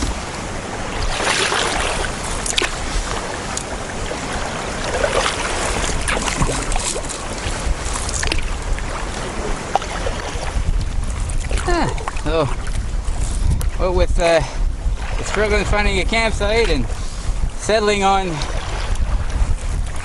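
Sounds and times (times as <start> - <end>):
paddle strokes splashing: 0.0 - 13.8, 14.8 - 20.0
rush of wind and water: 0.0 - 20.0
water splashing around canoe: 0.0 - 20.0.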